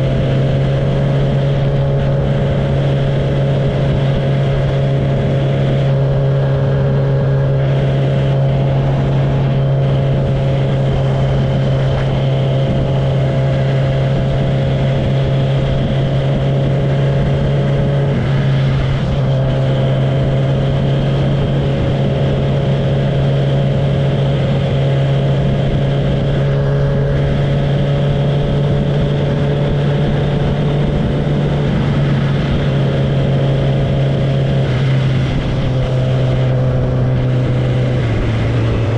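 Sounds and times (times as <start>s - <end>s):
motorcycle engine running loud: 0.0s - 38.9s.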